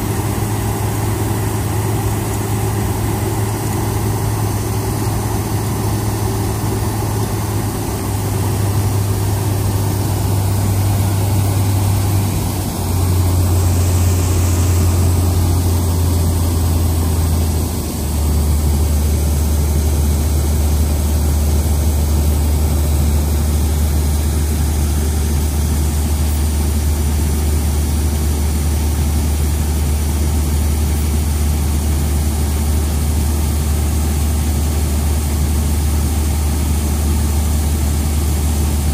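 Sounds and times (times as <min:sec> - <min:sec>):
combine harvester diesel engine: 0:00.0 - 0:38.9.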